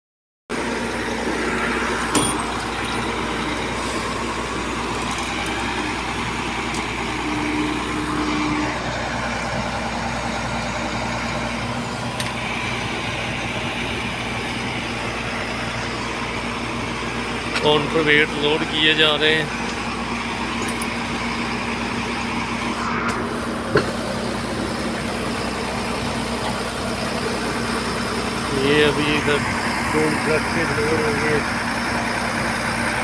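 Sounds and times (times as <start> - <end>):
truck diesel engine running: 0.5 - 33.0.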